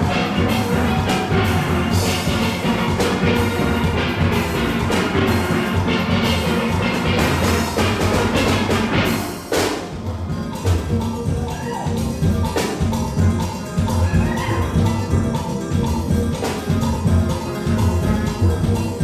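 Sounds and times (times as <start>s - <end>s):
drum kit beat: 0.0s - 19.0s.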